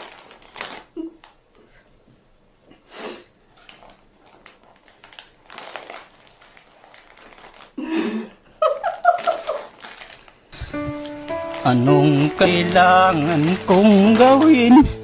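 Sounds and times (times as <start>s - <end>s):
crunching and crinkling: 0.0s - 1.9s, 3.4s - 8.0s, 8.8s - 15.0s.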